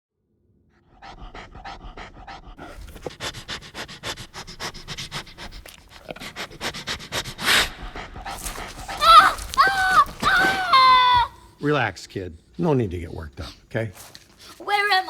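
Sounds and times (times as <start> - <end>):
bear sniffing: 0.8 - 12.6, 13.2 - 15.0.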